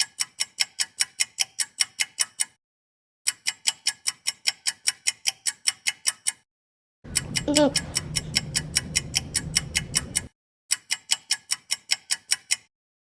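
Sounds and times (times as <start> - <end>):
rapid clock ticking: 0.0 - 2.6, 3.3 - 6.4, 7.1 - 12.7.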